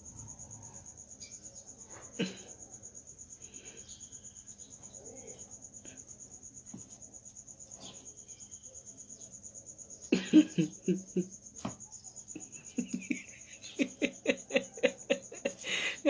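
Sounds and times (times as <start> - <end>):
insect trill pulsing: 0.0 - 16.0.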